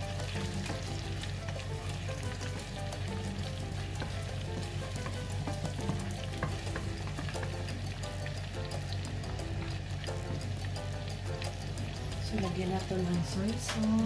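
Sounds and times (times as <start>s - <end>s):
chicken and onion sizzling: 0.0s - 14.0s
wooden spatula stirring: 0.0s - 14.0s.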